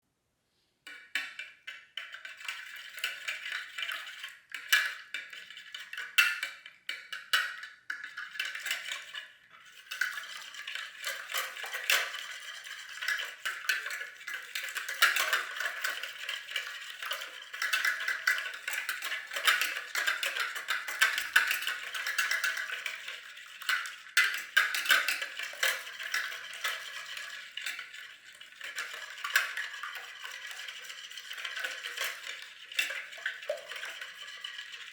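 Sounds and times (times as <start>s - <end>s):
utensil stirring and clinking in bowl: 0.9s - 34.9s.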